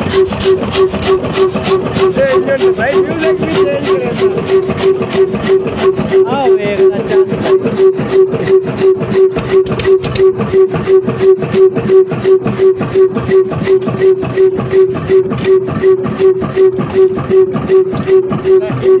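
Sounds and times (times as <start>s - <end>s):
diesel engine exhaust beating: 0.0s - 19.0s.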